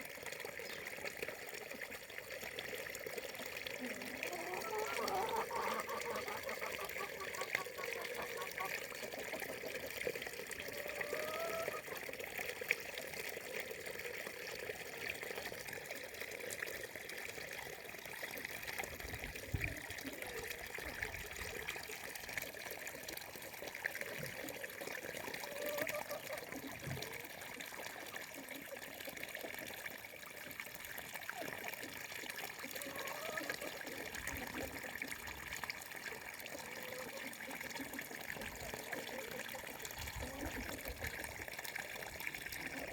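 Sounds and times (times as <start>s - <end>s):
faint water gurgling: 0.0s - 42.9s
stream babbling and trickling: 0.0s - 42.9s.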